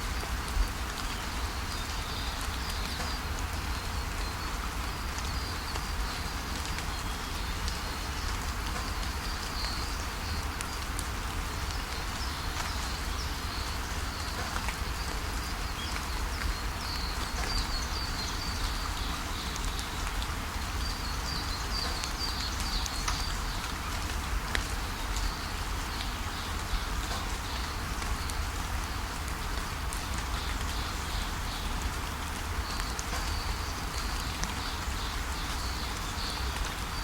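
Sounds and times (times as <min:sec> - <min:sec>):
steady rain falling: 0:00.0 - 0:37.0
water dripping: 0:00.0 - 0:37.0
small birds chirping: 0:00.6 - 0:29.1, 0:30.2 - 0:37.0.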